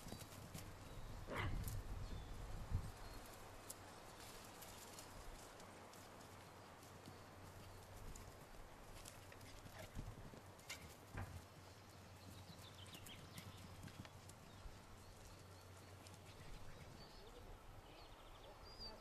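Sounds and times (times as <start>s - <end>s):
paws galloping on grass: 0.0s - 17.4s.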